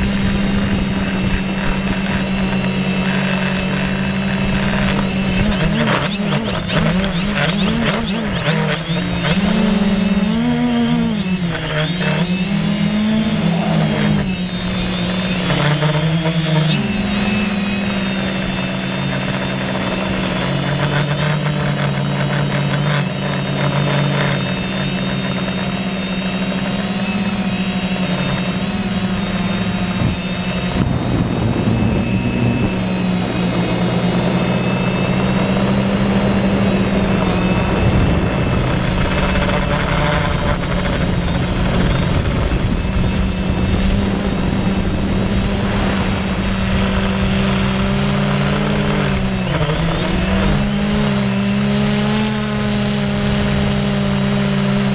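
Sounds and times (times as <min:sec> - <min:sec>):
drone propellers buzzing: 0:00.0 - 0:54.9
high thin whine: 0:00.0 - 0:54.9.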